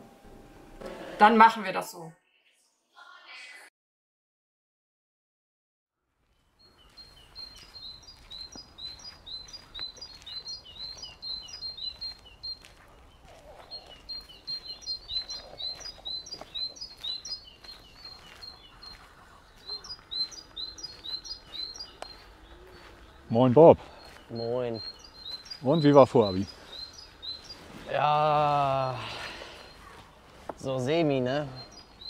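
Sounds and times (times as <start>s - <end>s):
songbirds chirping and singing: 6.3s - 32.0s.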